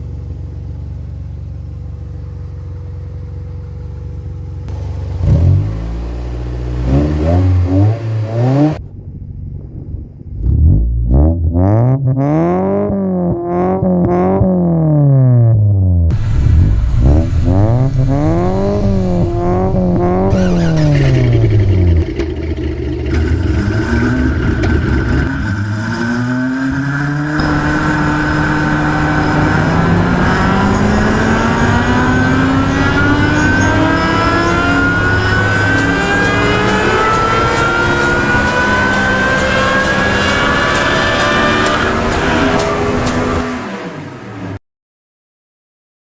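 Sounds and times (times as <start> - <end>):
car engine revving: 0.0 - 44.6.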